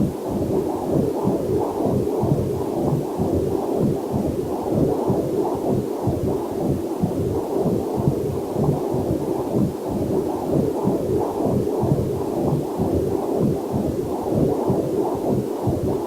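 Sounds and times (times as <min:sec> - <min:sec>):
doppler heartbeat whooshing: 0:00.0 - 0:16.0.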